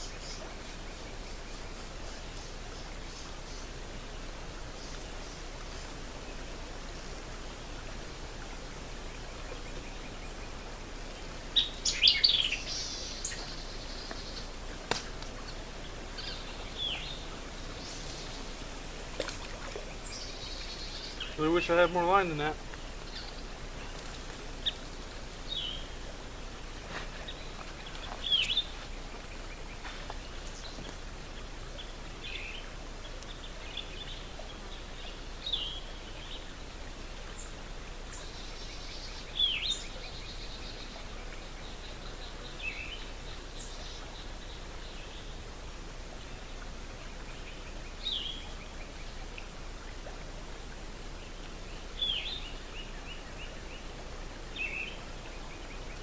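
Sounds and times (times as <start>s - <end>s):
birds chirping: 0.0s - 45.5s, 51.1s - 56.0s
steady background hiss: 0.0s - 56.0s.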